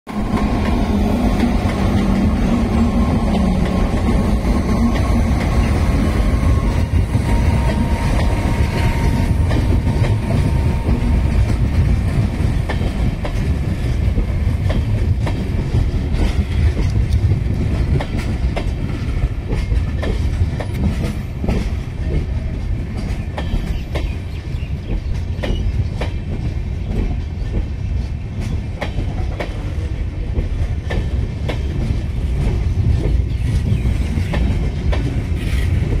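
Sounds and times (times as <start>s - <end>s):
electric locomotive hum: 0.1s - 36.0s
train wagons rumbling: 0.1s - 36.0s
wheels clacking over rail joints: 0.2s - 36.0s.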